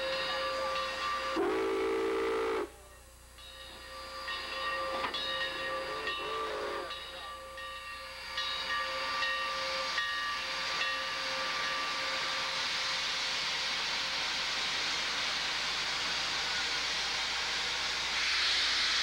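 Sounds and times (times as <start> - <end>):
steam locomotive hissing steam: 0.0 - 19.0.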